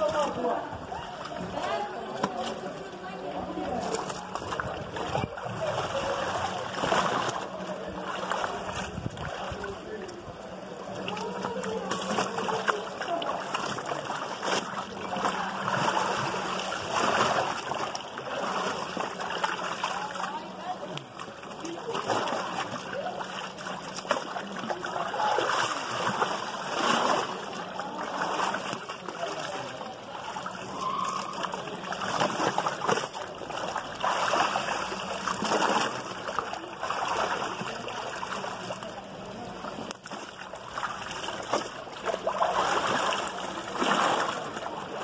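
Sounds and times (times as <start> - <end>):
muddy water sloshing: 0.0 - 45.0.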